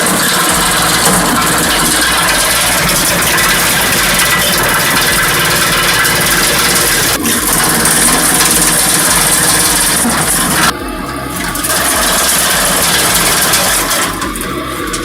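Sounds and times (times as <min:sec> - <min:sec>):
wood chipper engine: 0:00.0 - 0:15.0.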